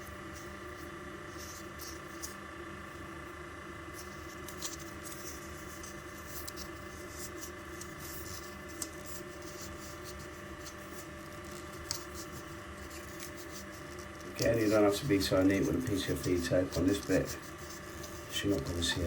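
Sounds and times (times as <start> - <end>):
faint tape rustling: 0.0 - 3.1, 3.8 - 19.0
steady background hum: 0.0 - 19.0.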